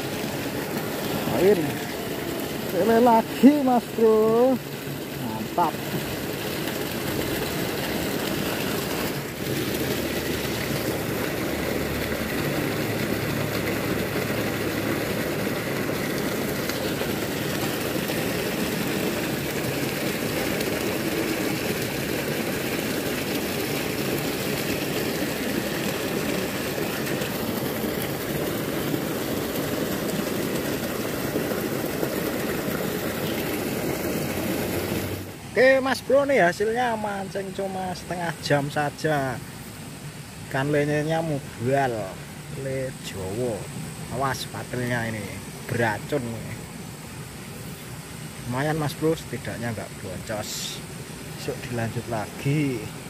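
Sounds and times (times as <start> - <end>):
water rushing over weir: 0.0 - 53.0.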